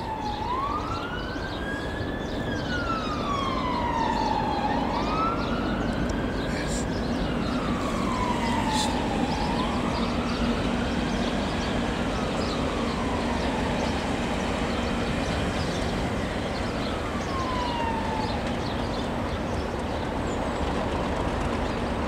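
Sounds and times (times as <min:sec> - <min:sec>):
siren wailing: 0:00.0 - 0:19.3
diesel locomotives running: 0:01.8 - 0:22.0.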